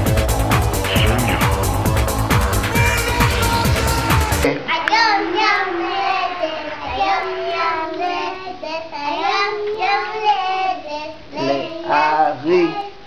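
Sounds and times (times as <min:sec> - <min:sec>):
boys singing together: 0:00.0 - 0:13.0.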